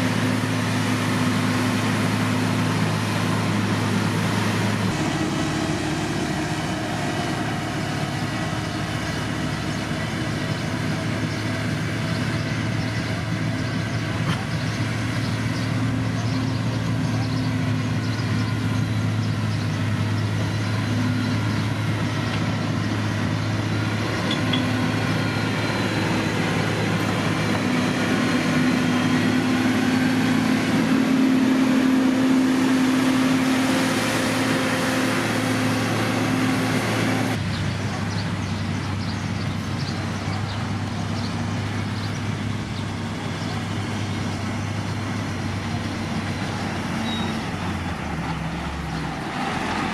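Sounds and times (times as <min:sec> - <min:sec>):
diesel machinery engine running: 0:00.0 - 0:49.9.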